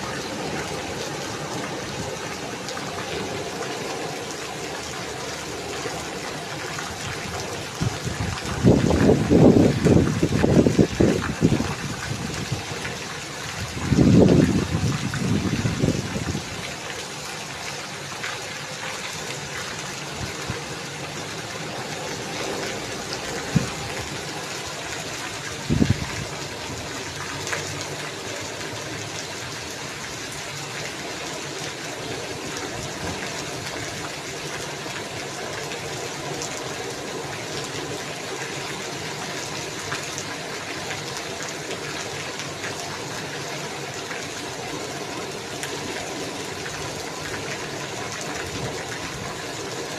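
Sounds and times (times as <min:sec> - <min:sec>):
heavy rain falling: 0:00.0 - 0:49.9
water gushing: 0:00.0 - 0:49.9.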